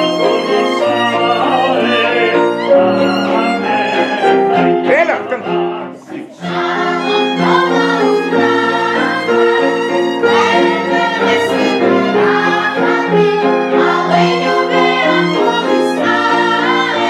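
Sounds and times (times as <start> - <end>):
bowed strings with cello: 0.0 - 17.0.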